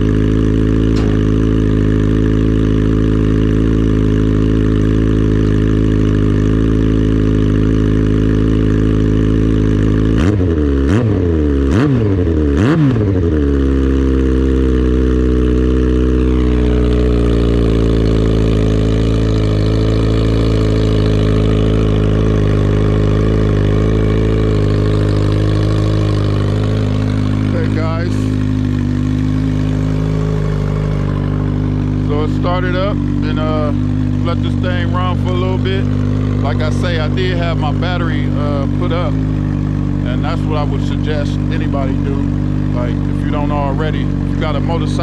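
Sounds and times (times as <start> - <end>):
motorcycle engine idling: 0.0 - 45.0
motorcycle throttle blips: 0.0 - 45.0.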